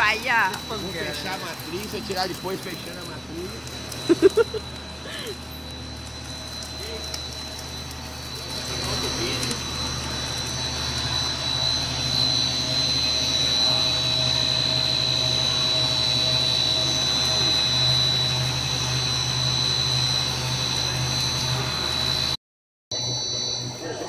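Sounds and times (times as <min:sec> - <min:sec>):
low motor hum: 0:00.0 - 0:24.0
machine high whine: 0:00.0 - 0:24.0.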